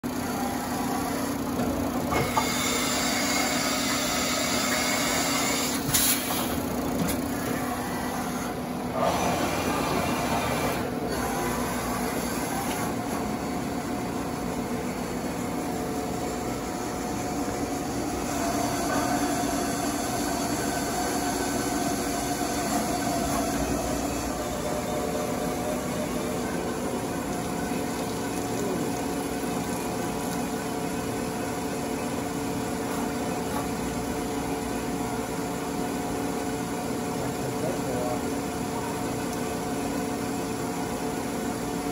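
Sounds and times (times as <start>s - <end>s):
milling machine hum: 0.0s - 41.9s.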